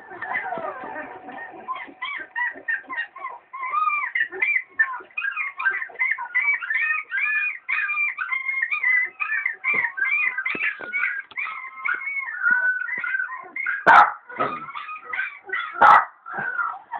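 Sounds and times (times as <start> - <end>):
dog whining and yipping: 0.0 - 16.9.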